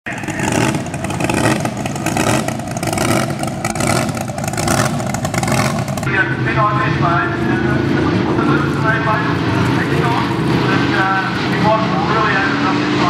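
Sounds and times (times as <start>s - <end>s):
racing boat engine roaring: 0.0s - 13.0s.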